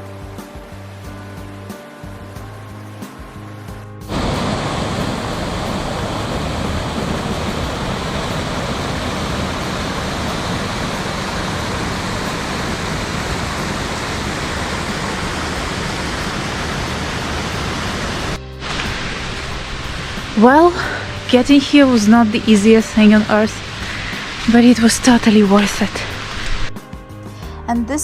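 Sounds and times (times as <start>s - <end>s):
waterfall pouring: 0.0s - 26.8s.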